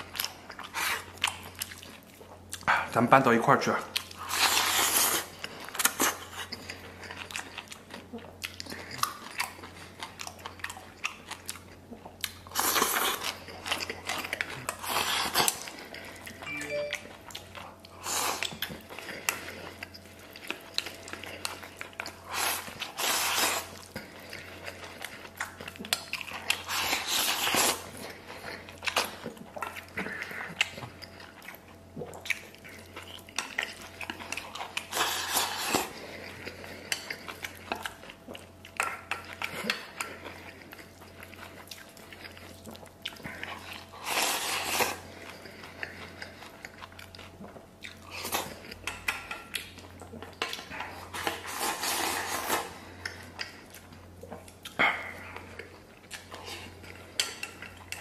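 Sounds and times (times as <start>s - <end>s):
person chewing and biting food: 0.0s - 2.9s, 3.9s - 58.0s.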